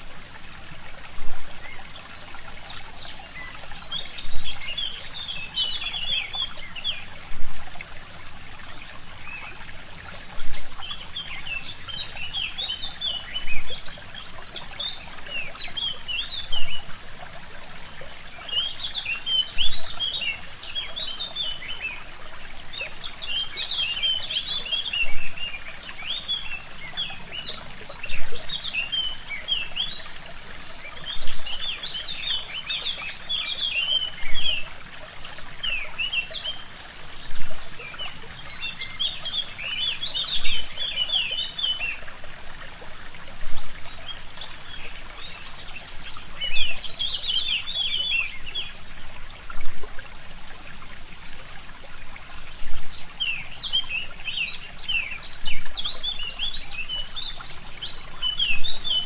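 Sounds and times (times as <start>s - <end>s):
brook trickling: 0.0s - 59.0s.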